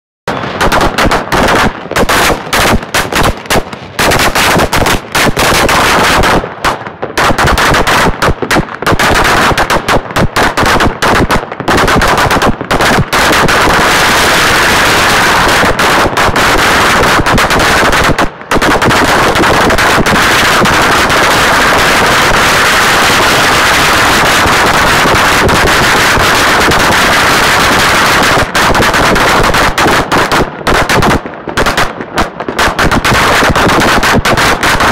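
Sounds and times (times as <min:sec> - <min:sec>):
firecrackers crackling: 0:00.3 - 0:34.9.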